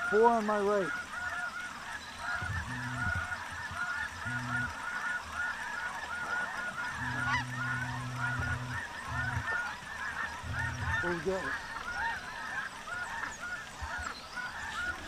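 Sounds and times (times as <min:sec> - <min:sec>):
flock of geese honking: 0:00.0 - 0:15.0
low steady hum: 0:01.8 - 0:15.0.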